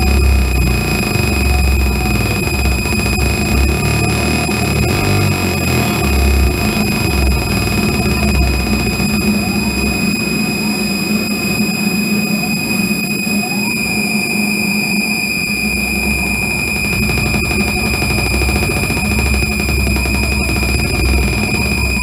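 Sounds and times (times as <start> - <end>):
high-pitched theremin tone: 0.0 - 22.0
low rumbling drone: 0.0 - 22.0.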